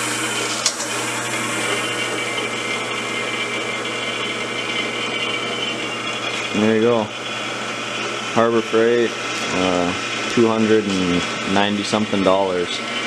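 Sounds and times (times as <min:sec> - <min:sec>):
drill press motor whirring: 0:00.0 - 0:13.0.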